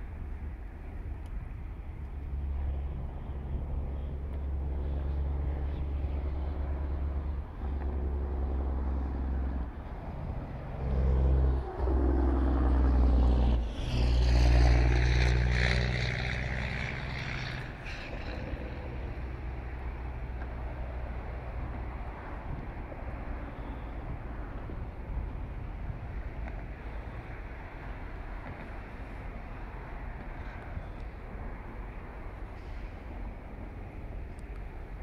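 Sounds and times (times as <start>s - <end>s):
distant diesel locomotive drone: 0.0s - 35.0s.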